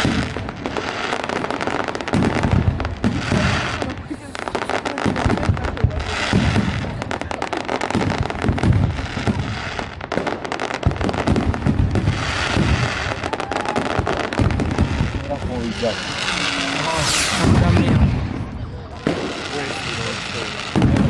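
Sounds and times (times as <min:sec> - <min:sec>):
firework booms: 0:00.0 - 0:21.0
fireworks popping and crackling: 0:00.0 - 0:21.0.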